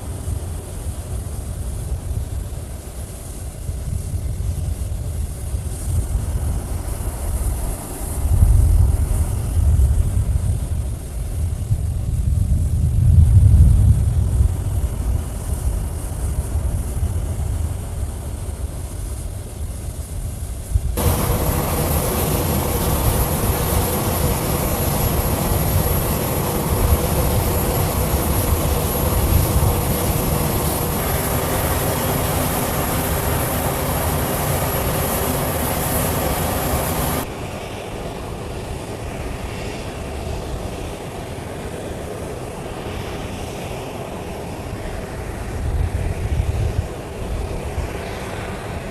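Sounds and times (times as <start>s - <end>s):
jet engine whine: 0.0s - 48.9s
jet engines rumbling: 0.0s - 48.9s.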